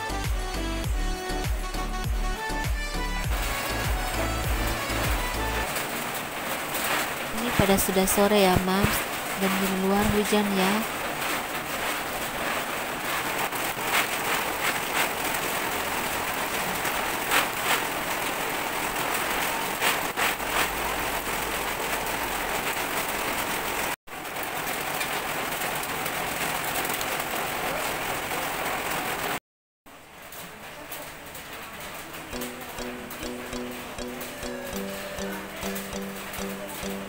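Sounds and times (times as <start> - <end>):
steady rain hiss: 3.3 - 37.0.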